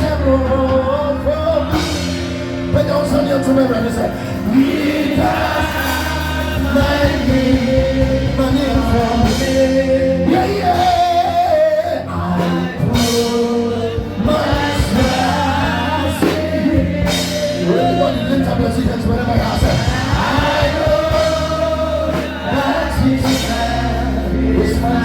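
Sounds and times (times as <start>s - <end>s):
band with bass and beat: 0.0s - 25.0s
voices singing gospel: 0.0s - 25.0s.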